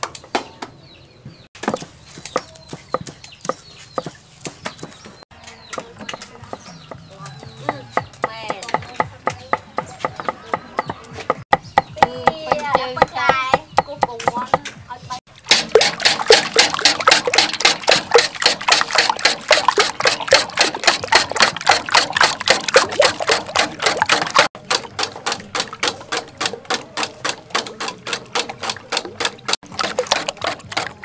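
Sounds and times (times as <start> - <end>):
eggs beaten in metal bowl: 1.8 - 14.8, 15.4 - 31.0.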